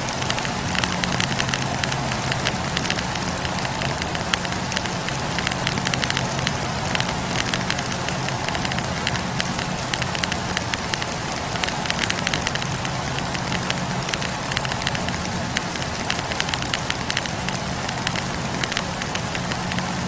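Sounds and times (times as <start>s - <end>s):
campfire crackling: 0.0s - 20.0s
low steady hum: 0.0s - 20.0s.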